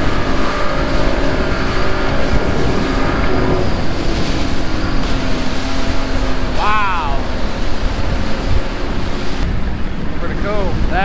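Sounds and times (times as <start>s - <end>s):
boat engine droning: 0.0s - 11.0s
rushing noise: 0.0s - 11.0s.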